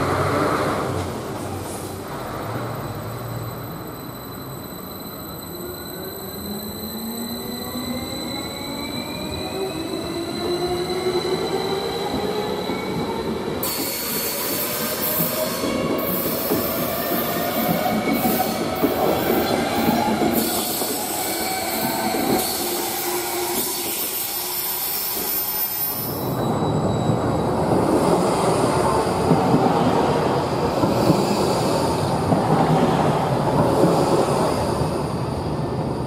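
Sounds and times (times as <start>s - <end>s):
tram rumbling past: 0.0s - 36.0s.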